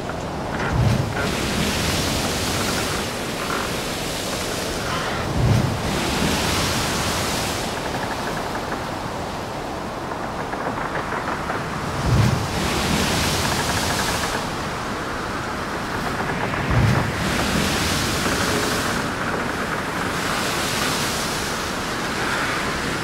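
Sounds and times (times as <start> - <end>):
wind rushing on microphone: 0.0 - 23.0.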